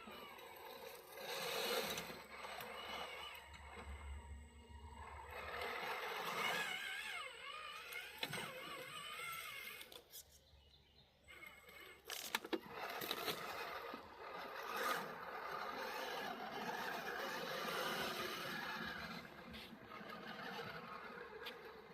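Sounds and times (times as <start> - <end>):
electric toy truck motor whining: 0.0 - 10.2, 10.9 - 21.9.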